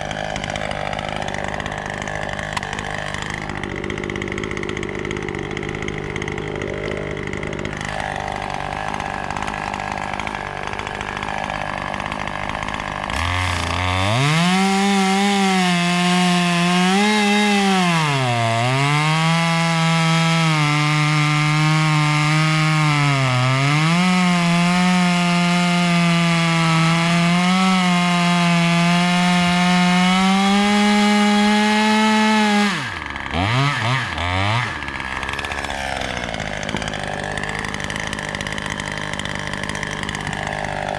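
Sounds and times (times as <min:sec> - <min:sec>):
chainsaw cutting wood: 0:00.0 - 0:40.9
chainsaw revving and idling: 0:00.0 - 0:40.9.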